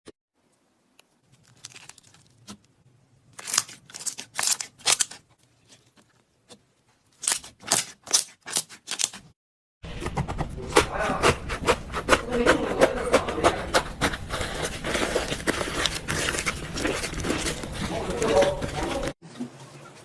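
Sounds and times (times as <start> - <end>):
slime squelching: 0.8 - 9.3, 10.6 - 19.2.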